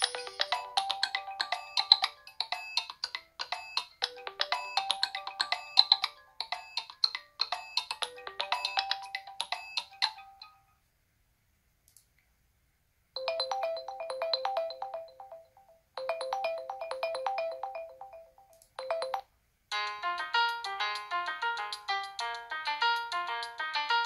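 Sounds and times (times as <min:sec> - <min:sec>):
smartphone ringtone melody: 0:00.0 - 0:10.8, 0:13.2 - 0:24.0.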